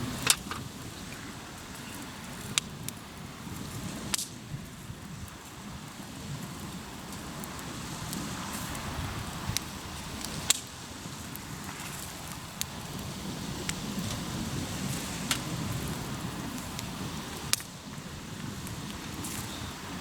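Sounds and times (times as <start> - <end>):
sharp fire pops: 0.0 - 0.8, 3.6 - 5.6, 6.4 - 19.7
campfire crackling: 0.0 - 20.0.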